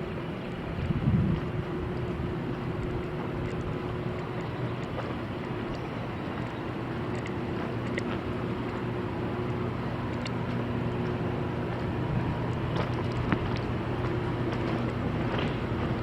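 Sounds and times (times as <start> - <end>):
engine running steadily: 0.0 - 16.0
faint clicks and knocks: 1.4 - 16.0.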